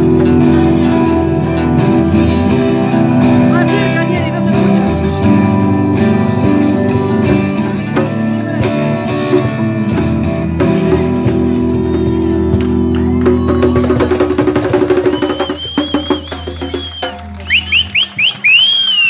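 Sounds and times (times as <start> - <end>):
choppy rhythmic guitar strokes: 0.0 - 15.8
electric and acoustic guitars: 0.0 - 19.0.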